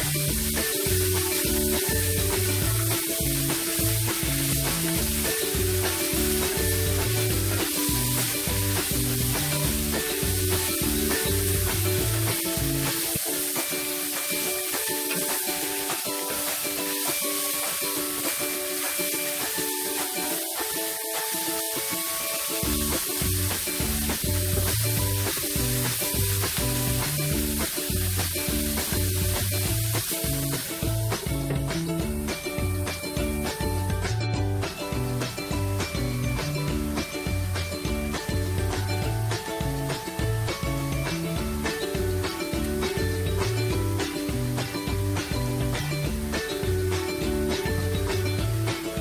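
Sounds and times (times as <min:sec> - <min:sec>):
background music: 0:00.0 - 0:49.0
food sizzling in frying pan: 0:00.0 - 0:49.0.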